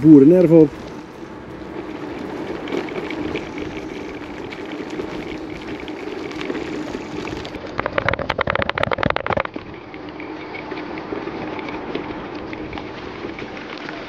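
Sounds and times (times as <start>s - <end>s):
bicycle tyres and wind rumble: 0.0s - 14.0s
rapid bicycle clicking: 0.0s - 14.0s.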